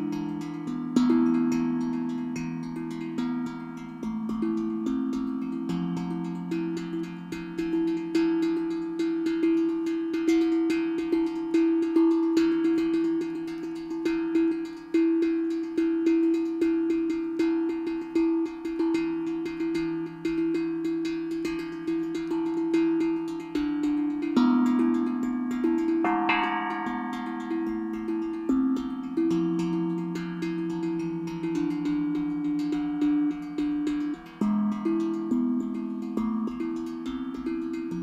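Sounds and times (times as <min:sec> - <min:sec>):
steel tongue drum notes: 0:00.0 - 0:38.0.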